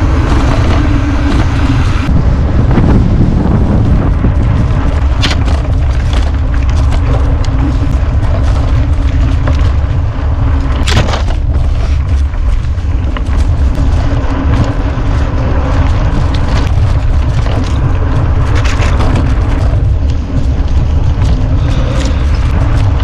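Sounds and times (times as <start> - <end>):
bike rattles and knocks: 0.0 - 23.0
wind buffeting microphone: 0.0 - 23.0.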